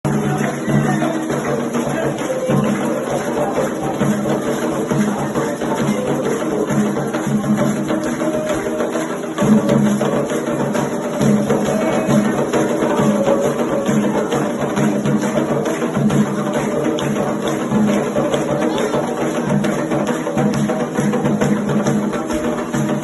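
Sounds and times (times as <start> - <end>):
drums playing a steady groove: 0.0 - 23.0
struck wooden percussion: 0.0 - 23.0.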